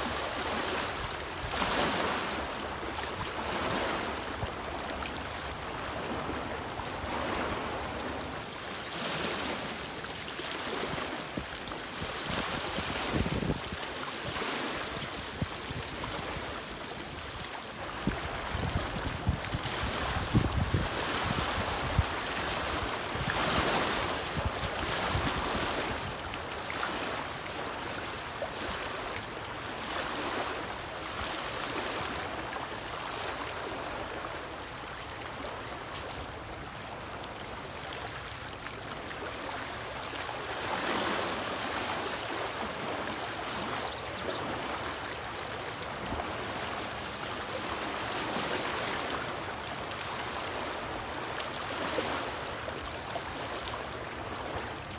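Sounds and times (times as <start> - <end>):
waves lapping on rocky shore: 0.0 - 54.9.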